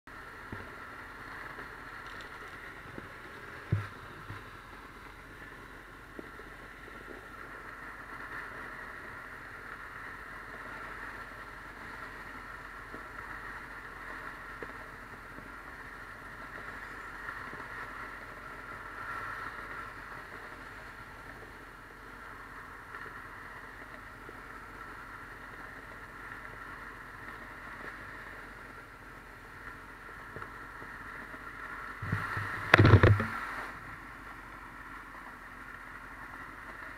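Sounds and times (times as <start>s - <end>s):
freeway traffic rushing: 0.1s - 36.9s.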